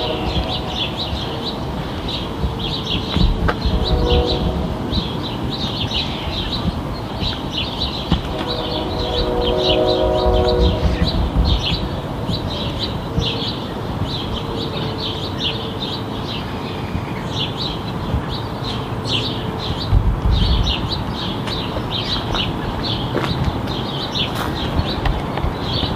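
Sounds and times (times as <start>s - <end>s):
songbirds chirping: 0.0s - 25.9s
steady low rumble: 0.0s - 25.9s.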